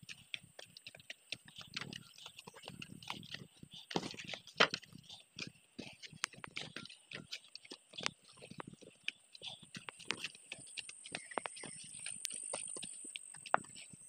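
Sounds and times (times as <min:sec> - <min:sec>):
footsteps on dirt and rock: 0:00.0 - 0:14.0.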